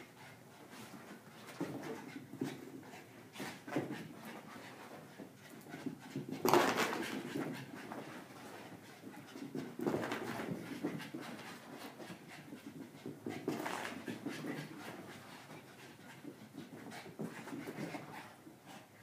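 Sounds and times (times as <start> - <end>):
dogs panting: 0.0 - 19.0
dogs scrambling and scuffling: 0.2 - 19.0.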